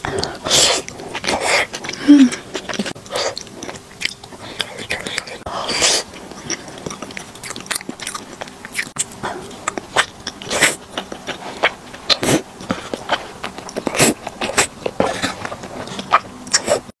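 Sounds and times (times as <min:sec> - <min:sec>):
slurping and chewing noodles: 0:00.0 - 0:16.9.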